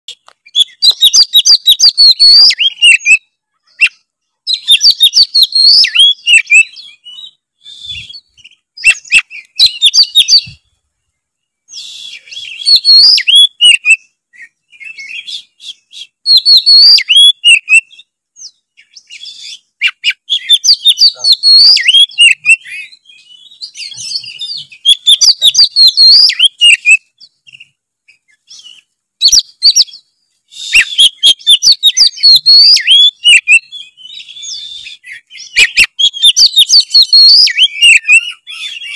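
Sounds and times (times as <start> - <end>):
bird singing whistles and chirps: 0.1 - 10.7, 11.4 - 38.9.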